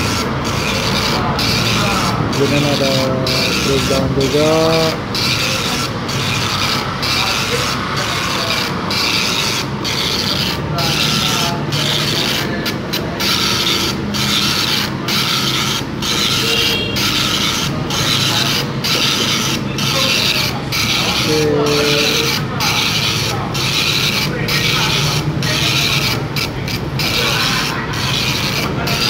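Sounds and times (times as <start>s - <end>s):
dot matrix printer printing: 0.0s - 29.0s.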